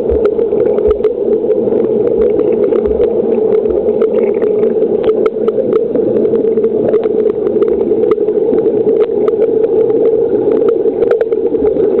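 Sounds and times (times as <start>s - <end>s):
underwater pool hum: 0.0s - 12.0s.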